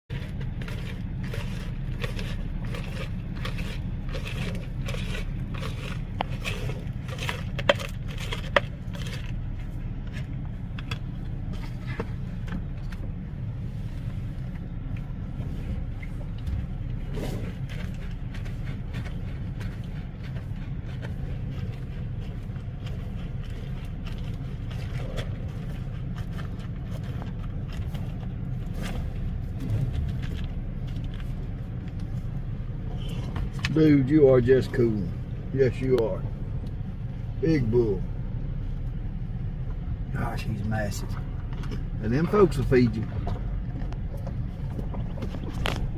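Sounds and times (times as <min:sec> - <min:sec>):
car engine idling: 0:00.1 - 0:45.9.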